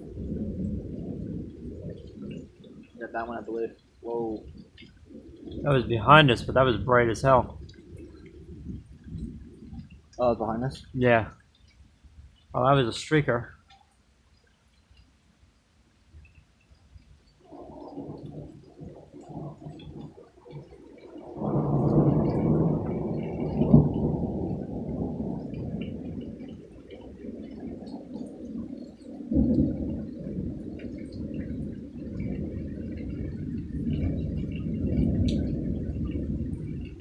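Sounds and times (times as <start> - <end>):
thunder rumbling: 0.0 - 11.3, 17.4 - 37.0.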